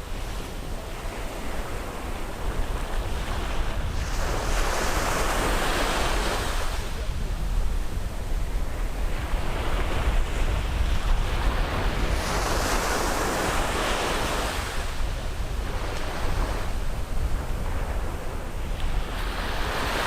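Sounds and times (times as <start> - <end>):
low rumble of surf: 0.0 - 20.0.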